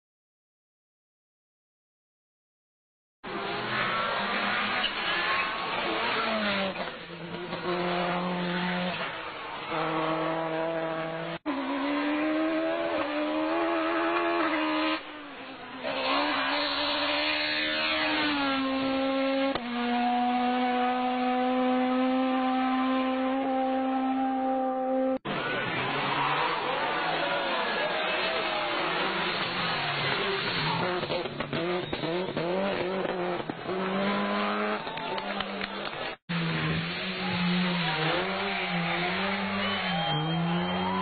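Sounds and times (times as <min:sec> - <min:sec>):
rally car engine at high revs: 0:03.2 - 0:41.0.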